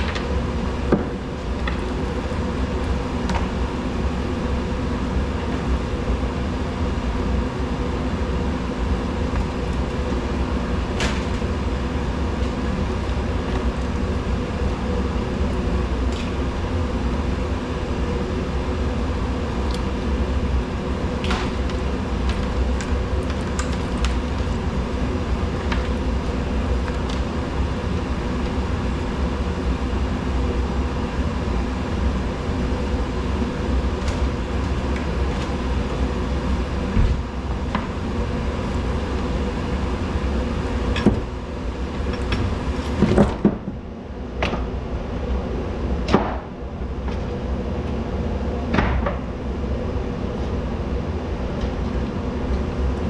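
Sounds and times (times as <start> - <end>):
mechanical drone with deep hum: 0.0 - 53.0.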